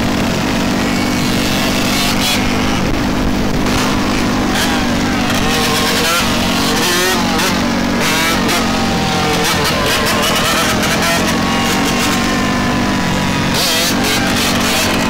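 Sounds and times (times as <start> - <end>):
dirt bike engines revving: 0.0 - 15.0
steady engine drone: 0.0 - 15.0.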